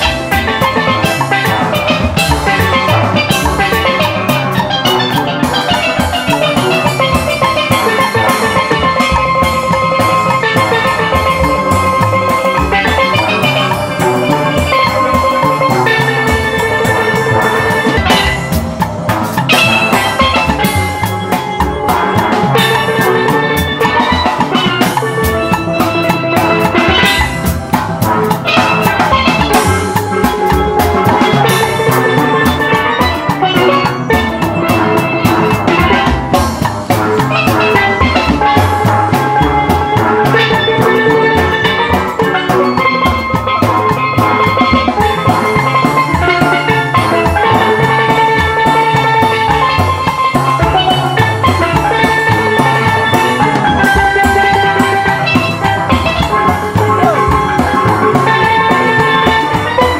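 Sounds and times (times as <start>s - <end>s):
drum kit beat: 0.0s - 59.9s
steelpan notes: 0.0s - 59.9s.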